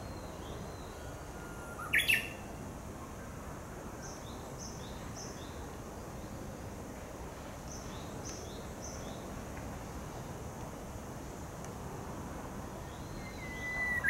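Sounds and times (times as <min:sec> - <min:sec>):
bush warbler song: 0:00.0 - 0:06.8, 0:07.5 - 0:11.5, 0:12.2 - 0:14.0.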